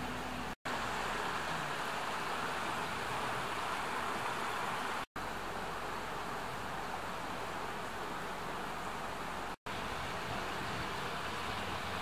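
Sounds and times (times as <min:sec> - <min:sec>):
rushing outdoor hiss: 0:00.0 - 0:12.0.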